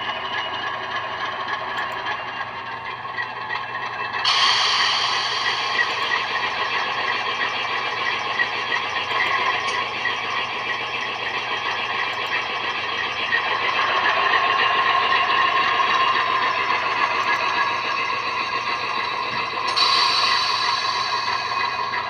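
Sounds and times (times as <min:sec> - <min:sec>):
diesel engine pulse through small speakers: 0:00.0 - 0:22.0.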